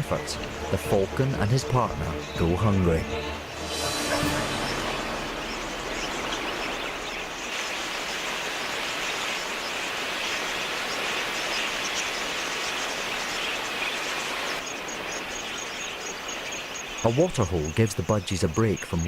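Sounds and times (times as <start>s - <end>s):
flock of budgerigars chattering: 0.0s - 3.2s, 3.9s - 19.0s.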